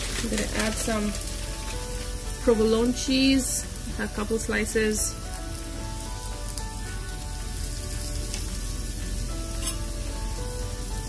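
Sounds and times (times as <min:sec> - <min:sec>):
eggs sizzling in pan: 0:00.0 - 0:11.0
soft background music: 0:00.0 - 0:11.0.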